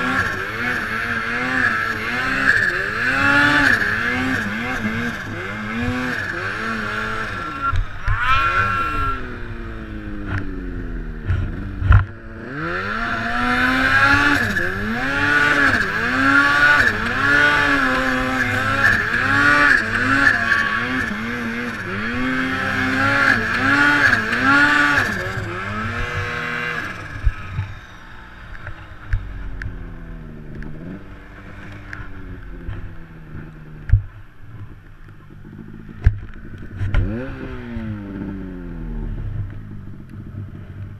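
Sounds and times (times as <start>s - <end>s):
snowmobile engine revving: 0.0s - 34.8s, 35.4s - 40.9s.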